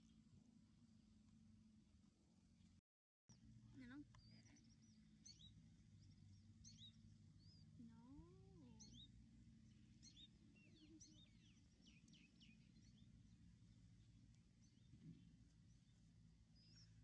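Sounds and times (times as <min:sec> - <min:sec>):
faint low hum: 0:00.0 - 0:17.0
high downward-sweeping bird chirps: 0:03.3 - 0:17.0.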